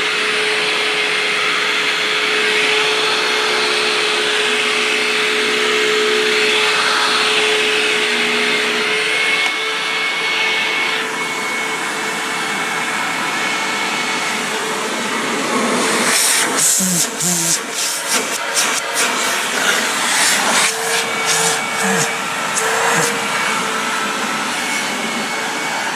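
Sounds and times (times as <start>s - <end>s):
vacuum cleaner whine: 0.0s - 25.9s.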